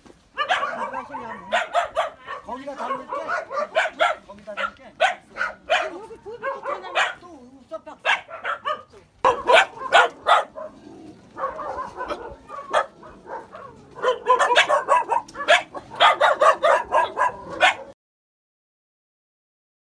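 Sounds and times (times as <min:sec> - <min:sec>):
dogs barking: 0:00.3 - 0:07.2, 0:08.0 - 0:18.0
dog yipping: 0:00.4 - 0:07.2, 0:08.0 - 0:10.8, 0:11.4 - 0:18.0.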